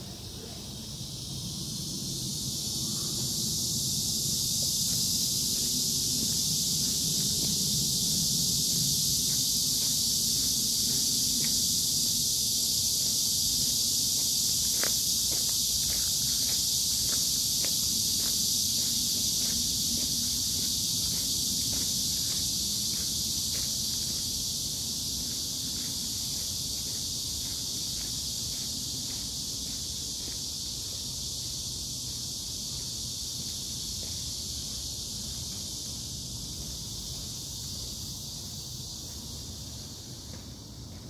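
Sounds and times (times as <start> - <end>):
high-pitched insect chorus: 0.0 - 41.0
light footsteps: 4.2 - 31.0, 32.7 - 41.0.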